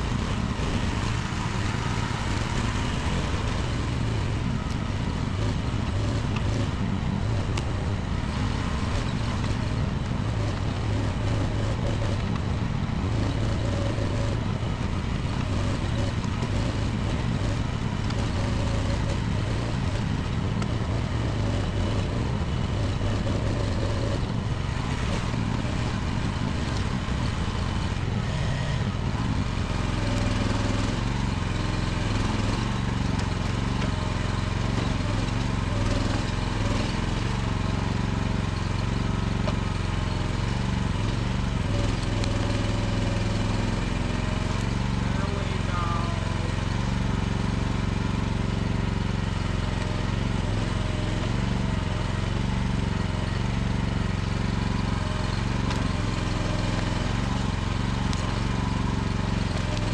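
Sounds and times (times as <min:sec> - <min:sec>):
mini excavator engine running: 0:00.0 - 0:59.9.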